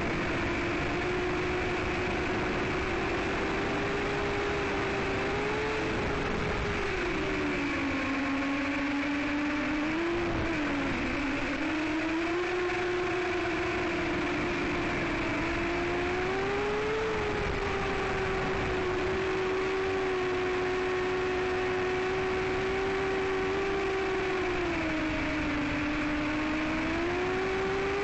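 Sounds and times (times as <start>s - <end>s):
quadcopter motors whining: 0.0s - 28.0s.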